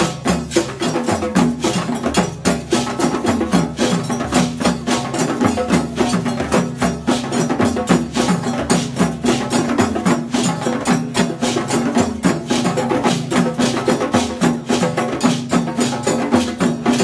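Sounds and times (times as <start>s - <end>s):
djembes played by hand: 0.0s - 17.0s.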